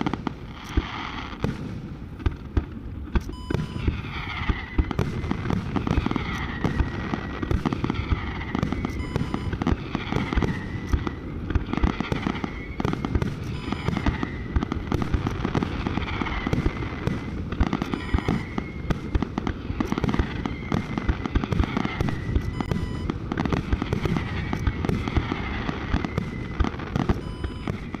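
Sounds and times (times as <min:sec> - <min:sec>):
fireworks crackling and popping: 0:00.0 - 0:28.0
falling firework whistle: 0:03.2 - 0:28.0.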